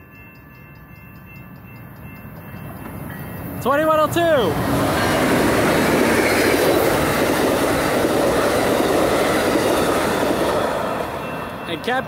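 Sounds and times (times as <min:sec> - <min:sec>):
train wheels rushing on rail: 0:01.1 - 0:12.0.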